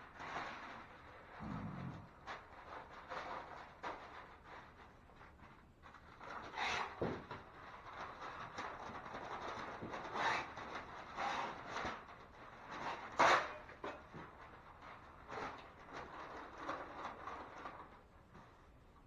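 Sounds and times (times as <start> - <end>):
paper rustling and scraping: 0.0 - 18.6.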